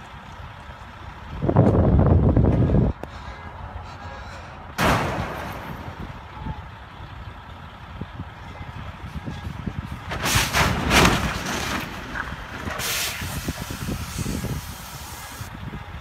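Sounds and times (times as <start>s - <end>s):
trucks rumbling: 0.0s - 16.0s
wind: 0.0s - 16.0s
vehicles crashing: 1.2s - 15.5s.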